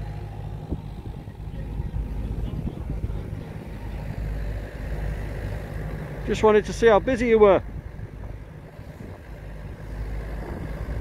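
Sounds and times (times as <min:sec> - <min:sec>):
engine humming: 0:00.0 - 0:11.0
outdoor background noise: 0:00.0 - 0:11.0.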